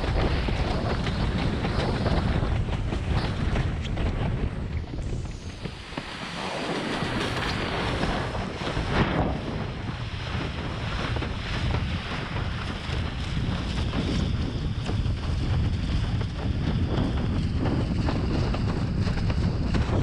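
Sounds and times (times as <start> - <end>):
water rushing and slapping: 0.0 - 20.0
wind buffeting microphone: 0.0 - 20.0.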